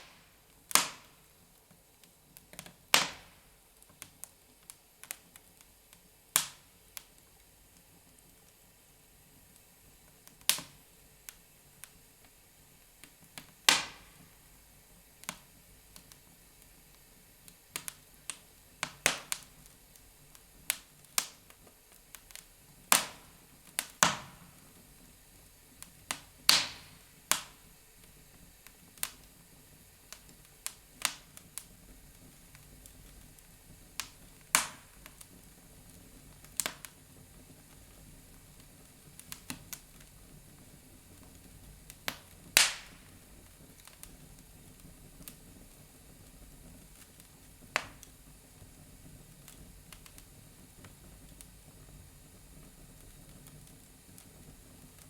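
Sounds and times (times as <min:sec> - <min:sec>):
faint steady hiss: 0:00.0 - 0:55.0
wood fire crackling: 0:00.0 - 0:55.0.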